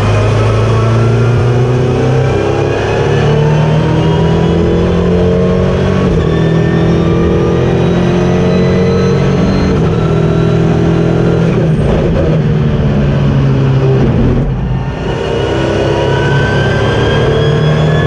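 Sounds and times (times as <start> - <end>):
race car engine under load: 0.0 - 18.0.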